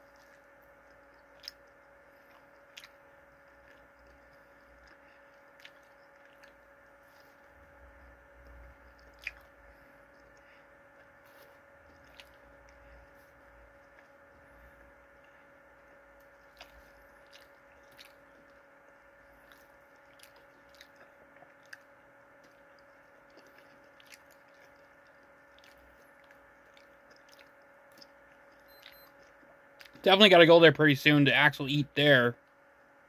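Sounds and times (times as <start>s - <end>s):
crunches and mouth clicks: 0.0s - 7.5s, 8.4s - 30.0s
chewing fried chicken: 0.0s - 30.6s
faint steady hum: 0.0s - 33.0s.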